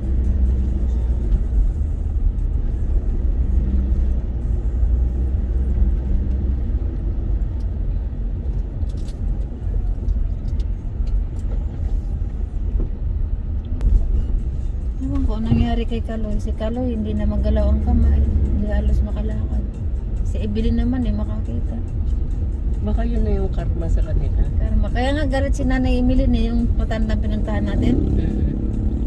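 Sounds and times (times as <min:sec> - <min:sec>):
road noise: 0:00.0 - 0:29.0
vehicle engine rumble: 0:00.0 - 0:29.0.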